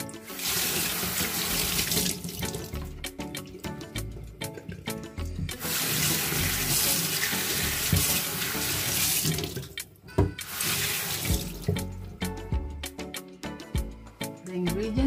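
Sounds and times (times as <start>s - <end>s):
tap water splashing into sink: 0.0s - 12.2s.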